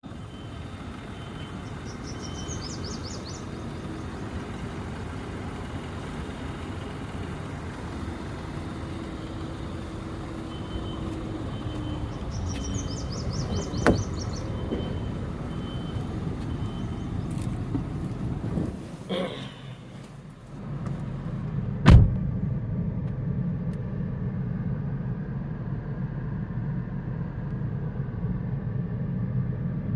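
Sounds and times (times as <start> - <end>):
car road and engine rumble: 0.0 - 29.9.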